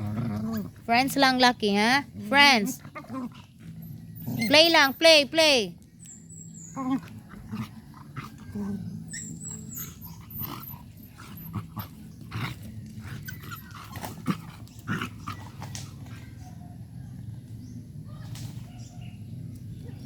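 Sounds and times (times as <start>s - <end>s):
dogs growling: 0.0s - 5.0s, 6.0s - 20.0s.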